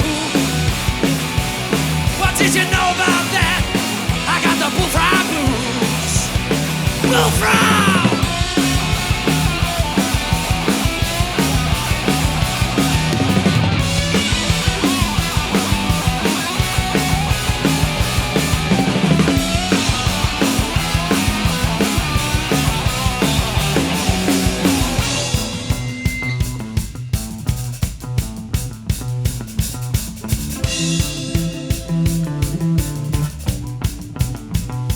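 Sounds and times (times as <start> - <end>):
electric guitar lead: 0.0 - 27.3, 30.2 - 34.9
bass guitar: 0.0 - 34.9
driving drum kit: 0.0 - 34.9.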